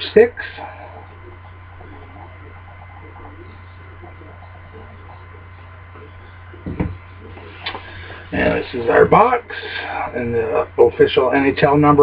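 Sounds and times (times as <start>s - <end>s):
faint voices: 0.0s - 12.0s
low electrical hum: 0.0s - 12.0s.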